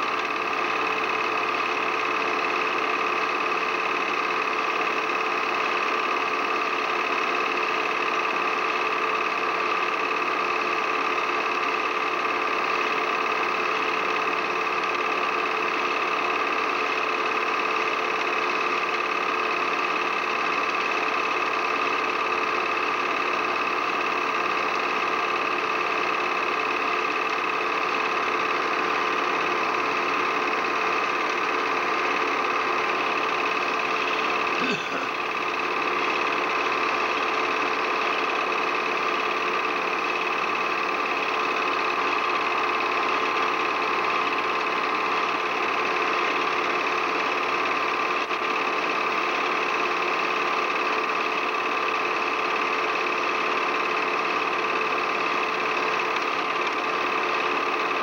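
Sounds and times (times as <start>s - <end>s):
small motor running with whine: 0.0s - 58.0s.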